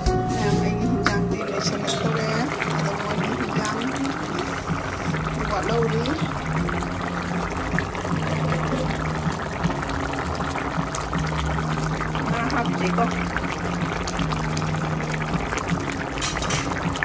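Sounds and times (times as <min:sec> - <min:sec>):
curry bubbling and popping: 0:00.0 - 0:17.0.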